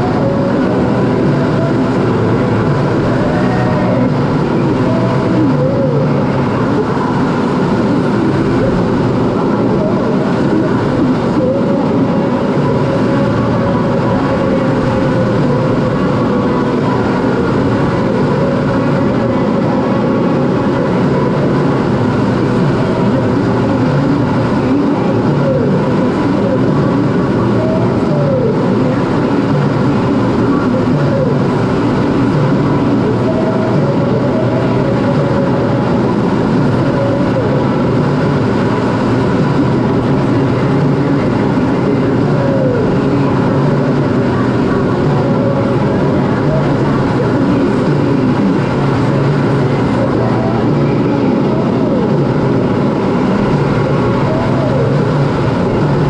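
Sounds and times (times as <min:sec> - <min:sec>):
air rushing over canopy: 0:00.0 - 0:56.0
jet engine running: 0:00.0 - 0:56.0.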